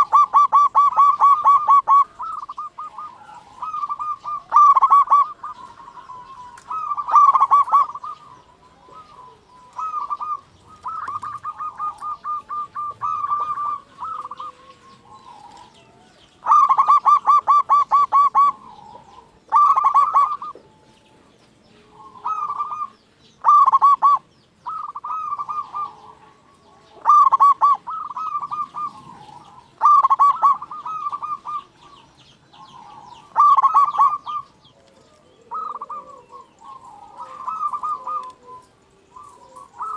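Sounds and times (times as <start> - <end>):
dove trilled cooing: 0.0 - 39.9.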